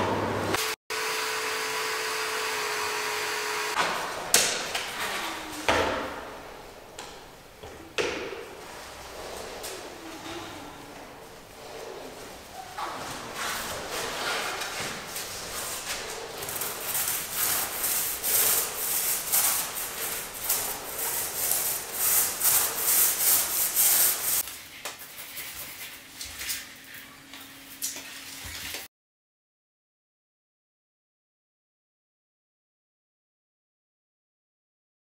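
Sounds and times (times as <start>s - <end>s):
paint roller on concrete floor: 0.4s - 28.9s.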